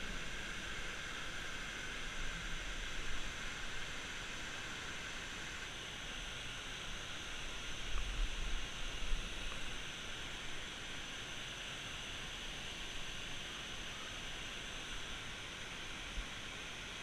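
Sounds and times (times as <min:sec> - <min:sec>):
waterfall rushing hiss: 0:00.0 - 0:17.0.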